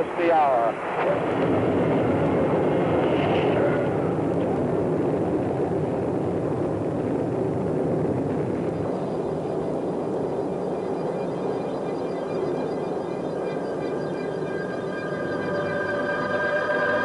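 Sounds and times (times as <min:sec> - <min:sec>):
rocket engines deep rumble: 0:00.0 - 0:17.0.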